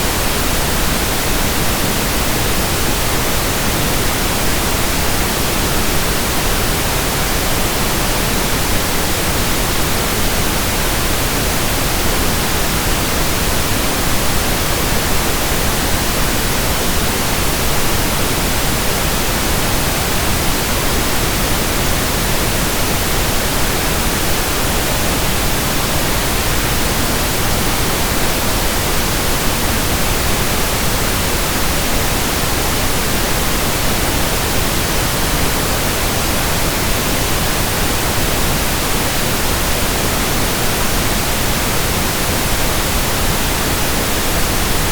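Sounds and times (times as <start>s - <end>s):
pink noise hiss: 0.0s - 44.9s.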